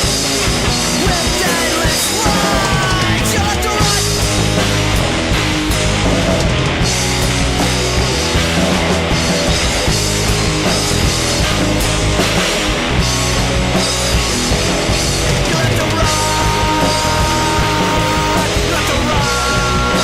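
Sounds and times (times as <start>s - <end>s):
bass guitar: 0.0s - 20.0s
distorted electric guitar: 0.0s - 20.0s
drums: 0.0s - 20.0s.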